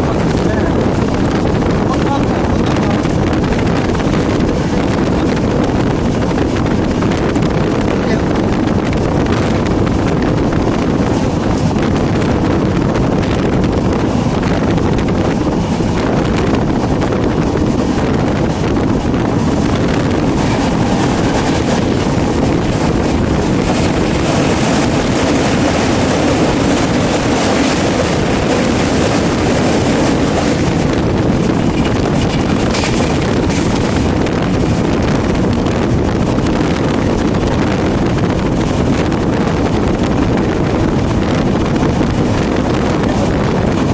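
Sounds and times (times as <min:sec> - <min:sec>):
passenger train rumbling: 0:00.0 - 0:43.9
wind buffeting microphone: 0:00.0 - 0:43.9.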